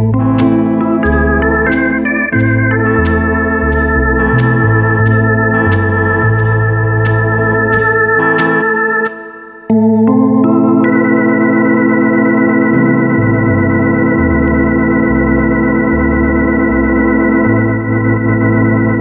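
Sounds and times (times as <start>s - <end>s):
electronic organ sustained chord: 0.0s - 19.0s
organ bass notes: 0.0s - 19.0s.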